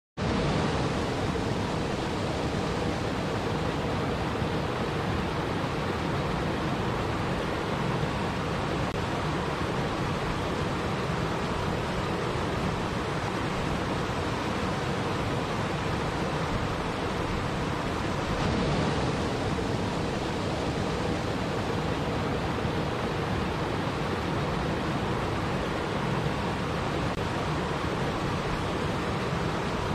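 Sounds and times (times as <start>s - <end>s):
waterfall rushing over boulders: 0.2s - 29.9s.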